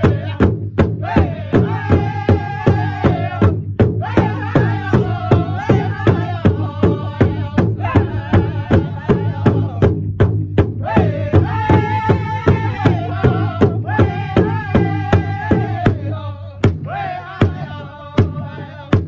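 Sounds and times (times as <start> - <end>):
group singing high wavering voices: 0.0 - 9.9, 10.8 - 19.0
drum struck in unison: 0.0 - 19.0.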